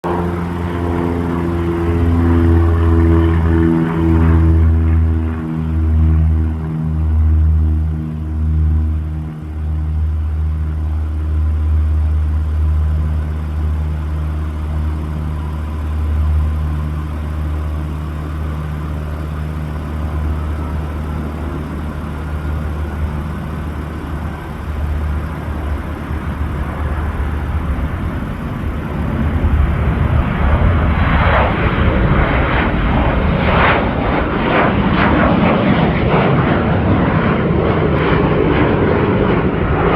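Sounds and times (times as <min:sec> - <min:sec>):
jet engine whine and roar: 0:00.0 - 0:39.9
low hum: 0:00.0 - 0:39.9.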